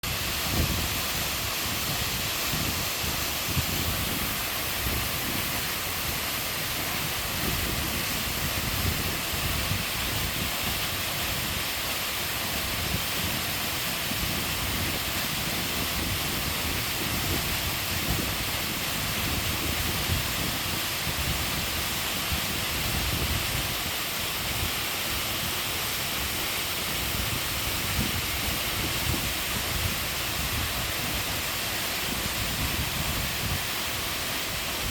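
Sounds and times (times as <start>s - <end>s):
waterfall pouring into stream: 0.0s - 34.9s.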